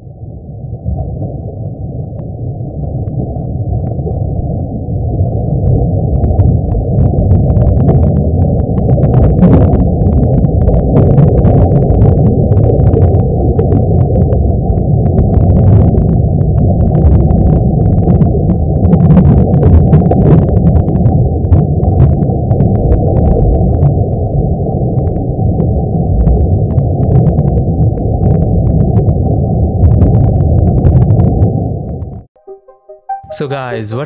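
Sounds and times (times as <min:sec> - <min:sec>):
crackles and pops: 0:00.0 - 0:32.3
low rumble: 0:00.0 - 0:32.3.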